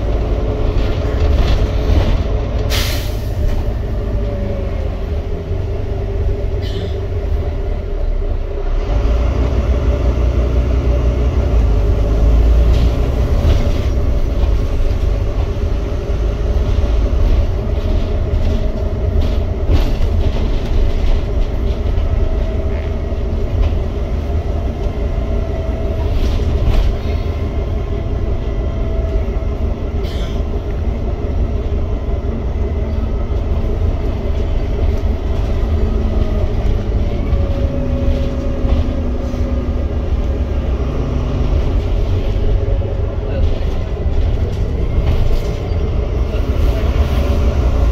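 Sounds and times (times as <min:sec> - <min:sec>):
bus engine rumble: 0:00.0 - 0:47.9.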